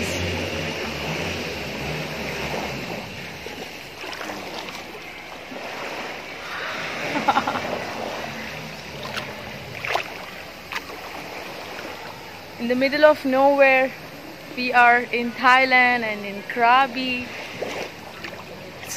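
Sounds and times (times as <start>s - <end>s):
sea water sloshing and splashing: 0.0s - 18.9s.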